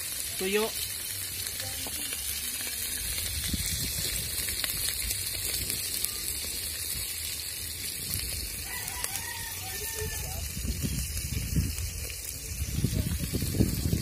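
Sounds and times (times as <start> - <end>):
fish sizzling in a pot: 0.0 - 14.0
wood fire crackling: 0.0 - 14.0.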